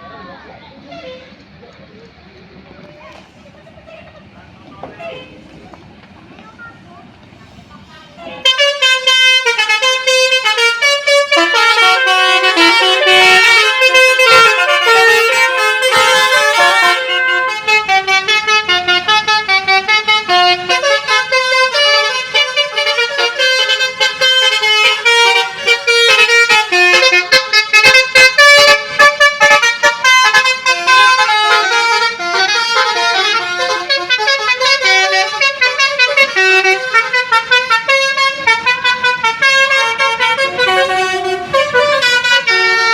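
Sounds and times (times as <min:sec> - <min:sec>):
bus horn playing fast tune: 0:08.2 - 0:42.9.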